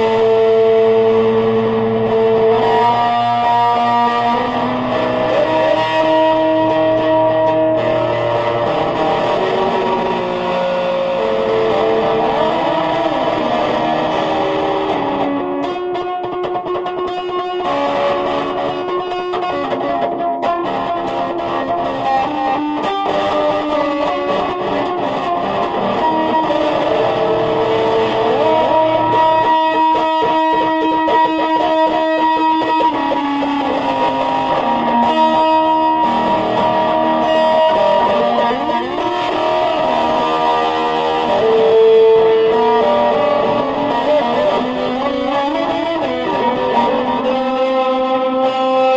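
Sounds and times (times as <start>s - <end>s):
distorted electric guitar music: 0.0s - 48.9s.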